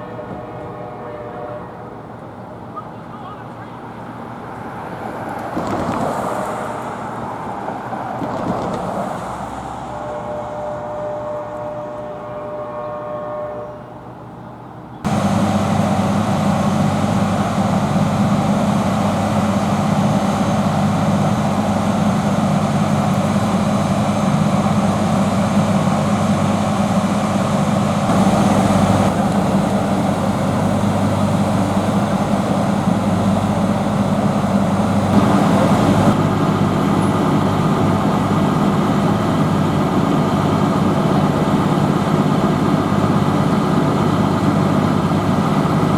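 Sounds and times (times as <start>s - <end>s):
diesel locomotive engine droning: 0.0s - 45.9s.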